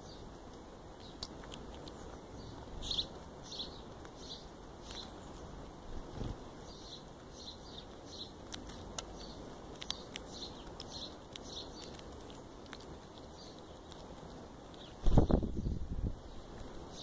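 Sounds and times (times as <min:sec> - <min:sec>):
bird chirping: 0:00.0 - 0:00.4, 0:01.0 - 0:05.5, 0:06.1 - 0:17.0
birds pecking in grass: 0:00.0 - 0:17.0.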